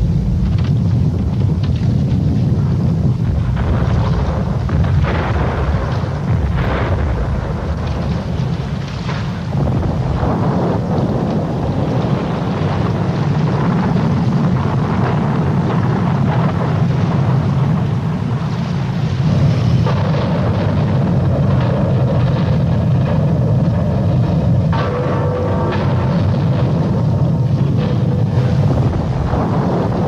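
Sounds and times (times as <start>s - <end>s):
water rumble: 0.0s - 30.0s
wind buffeting microphone: 0.0s - 30.0s.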